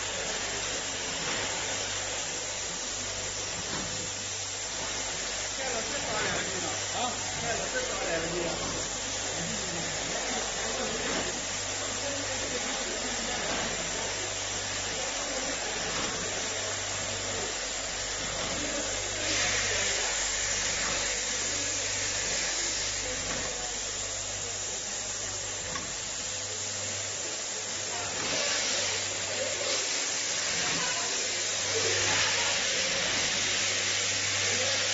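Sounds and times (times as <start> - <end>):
filling machine hissing: 0.0 - 34.9.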